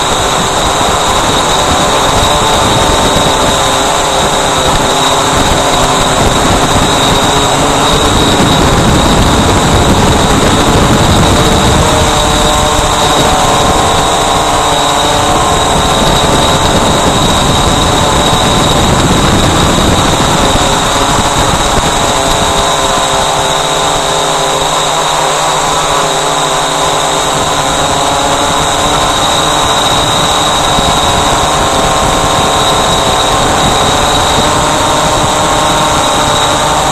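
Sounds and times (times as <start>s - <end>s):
drone propellers whirring: 0.0s - 36.9s
rushing air: 0.0s - 36.9s
thin high whine: 0.0s - 36.9s.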